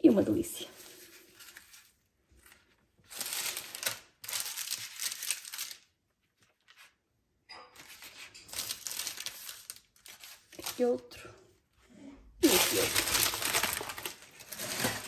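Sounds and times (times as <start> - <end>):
flaky pastry crackling: 0.6 - 7.0, 7.8 - 11.3, 12.4 - 15.0
paper crinkling: 0.7 - 7.2, 7.8 - 11.2, 12.4 - 15.0.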